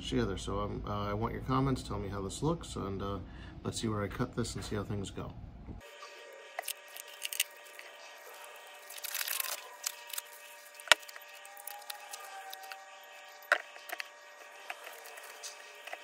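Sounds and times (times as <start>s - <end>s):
steady high hum: 0.0s - 16.0s.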